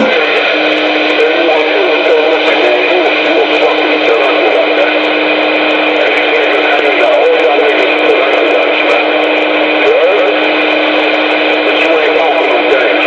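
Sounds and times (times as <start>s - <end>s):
garbled radio transmission: 0.0s - 13.0s
radio static: 0.0s - 13.0s.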